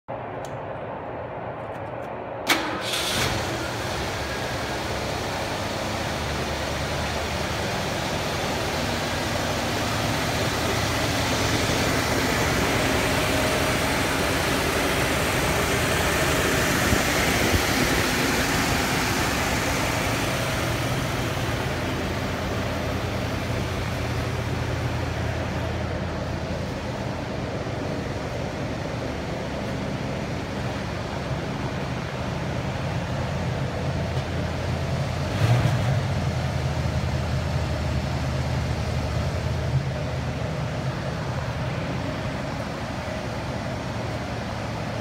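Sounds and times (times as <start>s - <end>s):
car engine starting and idling: 1.8s - 45.0s.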